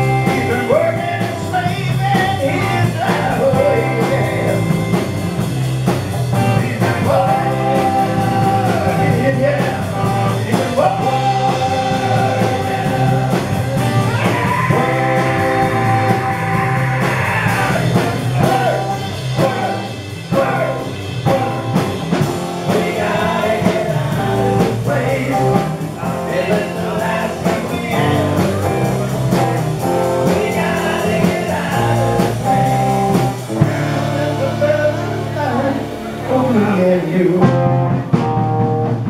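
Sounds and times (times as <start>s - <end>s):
man singing: 0.0s - 5.2s, 6.3s - 37.8s
live rock band playing: 0.0s - 39.0s.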